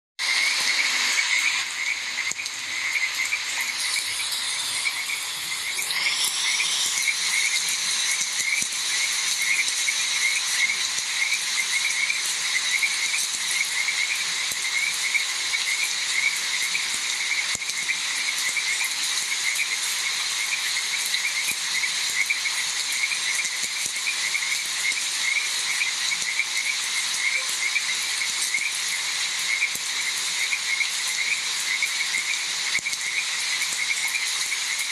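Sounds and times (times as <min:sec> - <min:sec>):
frogs croaking: 0:00.2 - 0:34.9
high insect drone: 0:00.2 - 0:34.9.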